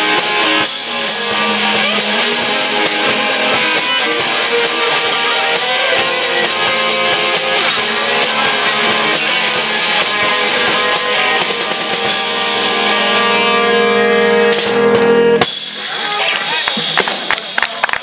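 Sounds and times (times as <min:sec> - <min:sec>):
live rock band playing: 0:00.0 - 0:17.7.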